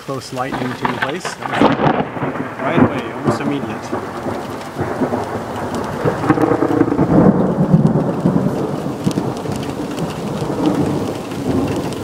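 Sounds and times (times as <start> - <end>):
rain falling: 0.0 - 12.0
thunder rumbling: 0.4 - 12.0.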